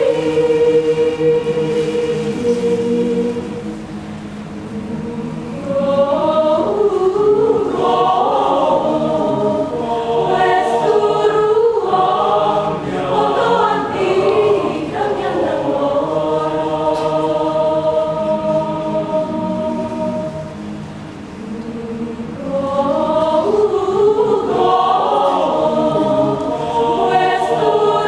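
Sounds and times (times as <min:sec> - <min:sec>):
choir singing in parts: 0:00.0 - 0:28.0.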